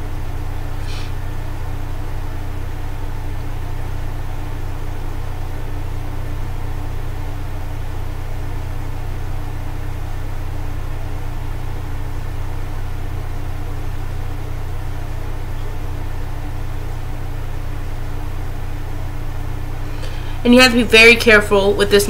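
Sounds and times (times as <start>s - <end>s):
steady low hum with hiss: 0.0s - 22.0s.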